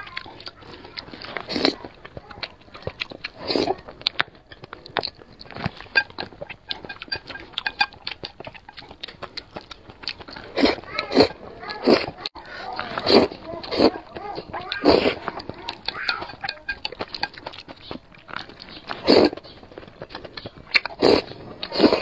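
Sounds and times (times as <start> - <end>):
lip smacks: 0.0 - 22.0
noodle slurping: 0.0 - 22.0
wet chewing: 0.0 - 22.0.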